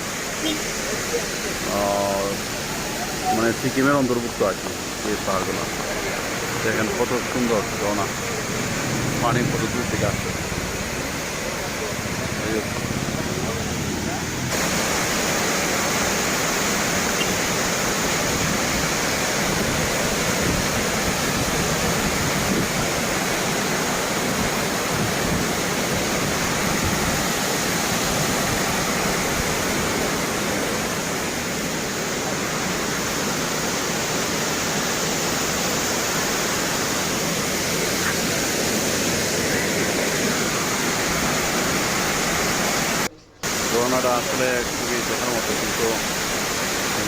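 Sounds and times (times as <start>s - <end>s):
waterfall roaring: 0.0s - 47.0s.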